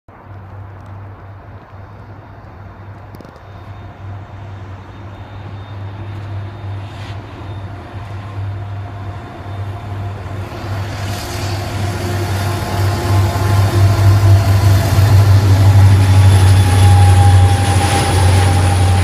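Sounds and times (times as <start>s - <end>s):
locomotive engine rumble: 0.2s - 19.0s.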